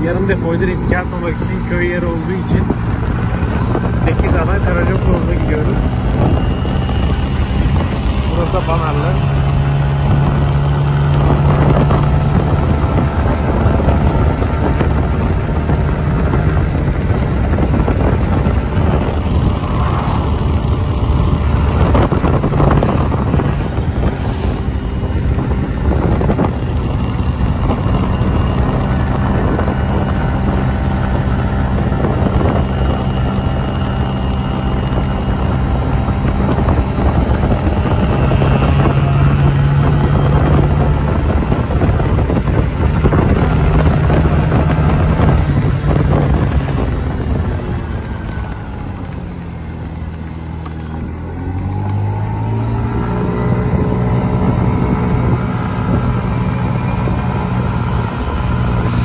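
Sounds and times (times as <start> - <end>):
scooter engine running: 0.0 - 59.0
wind buffeting microphone: 0.0 - 59.0.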